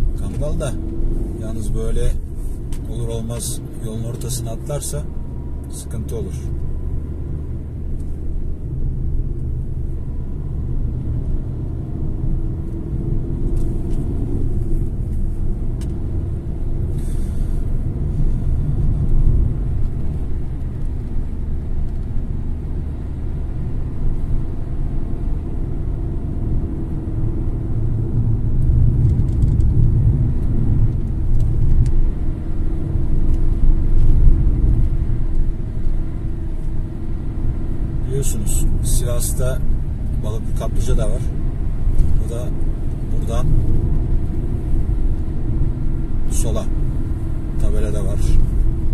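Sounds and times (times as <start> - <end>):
car driving on road: 0.0 - 48.9.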